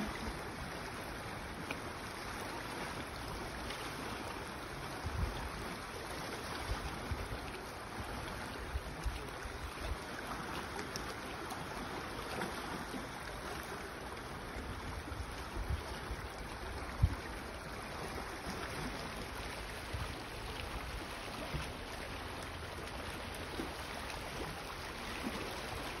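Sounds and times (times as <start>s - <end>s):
water lapping at rocks: 0.0s - 26.0s.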